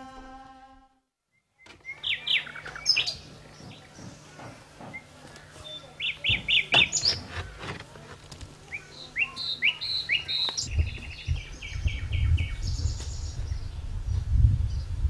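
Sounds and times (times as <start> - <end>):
songbirds chirping: 1.3 - 14.9.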